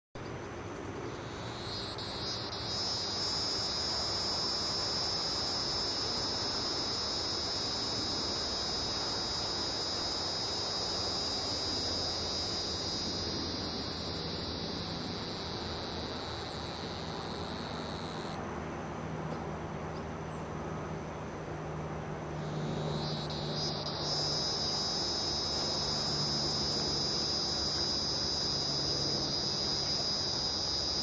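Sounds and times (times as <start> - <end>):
cicada high-pitched buzz: 0.9 - 18.4, 22.3 - 31.0.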